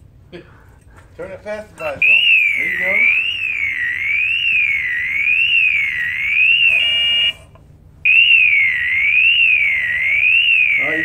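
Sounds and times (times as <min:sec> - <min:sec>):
warbling distress alarm: 0:01.8 - 0:11.0.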